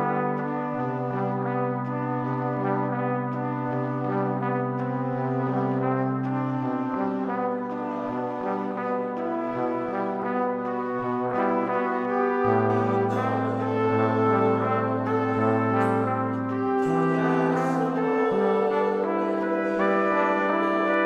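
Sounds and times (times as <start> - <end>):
slow instrumental music with chords: 0.0 - 21.0.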